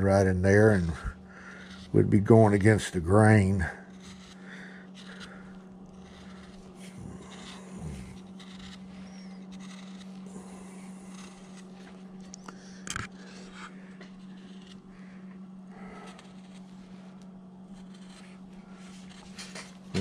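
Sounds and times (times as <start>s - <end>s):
gouge scraping wood: 0.0s - 15.1s, 15.8s - 20.0s
steady low hum: 0.0s - 20.0s.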